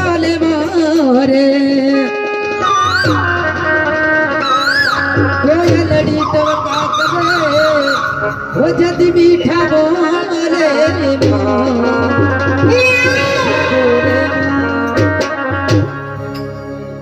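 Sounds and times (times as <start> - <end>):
folk music with drums: 0.0 - 17.0.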